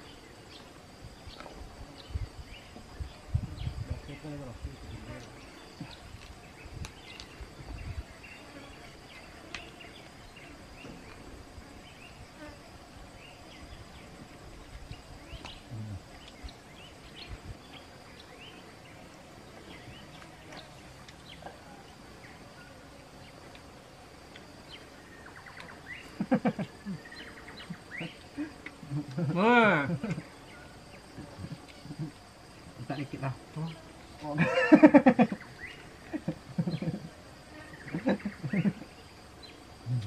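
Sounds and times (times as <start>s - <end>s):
insects buzzing: 0.0s - 40.0s.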